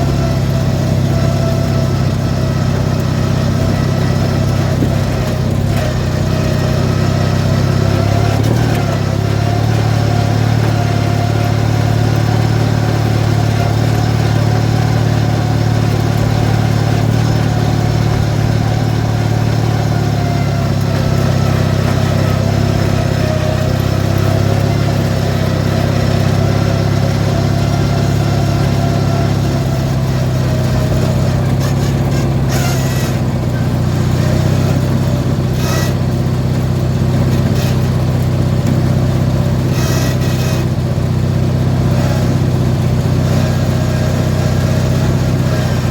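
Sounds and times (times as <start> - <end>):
riding mower engine running: 0.0 - 45.9.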